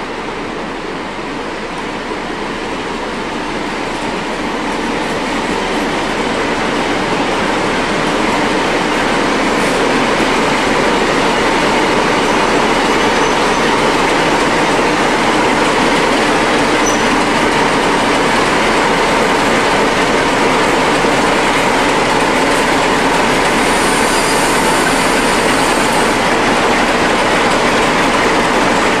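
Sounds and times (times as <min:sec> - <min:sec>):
train wheels on rail: 0:00.0 - 0:29.0.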